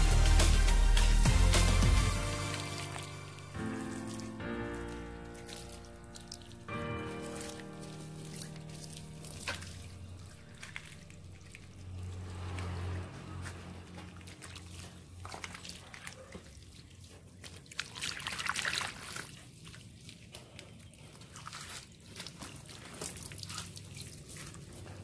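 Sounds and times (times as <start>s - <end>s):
hose water splashing into soil: 0.0s - 25.0s
hands squelching mud: 2.0s - 25.0s.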